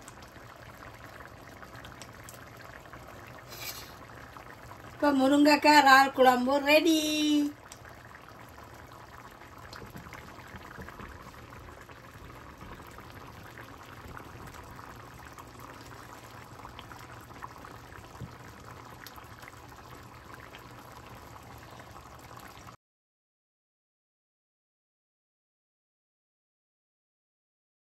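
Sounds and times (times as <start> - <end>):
curry bubbling in a pot: 0.0 - 22.8.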